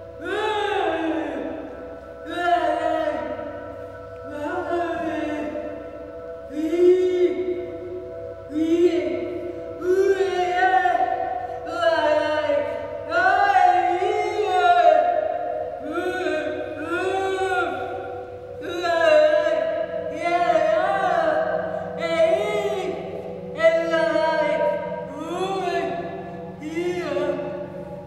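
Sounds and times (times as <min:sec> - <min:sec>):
person singing gliding notes: 0:00.0 - 0:28.0
steady drone: 0:00.0 - 0:28.0.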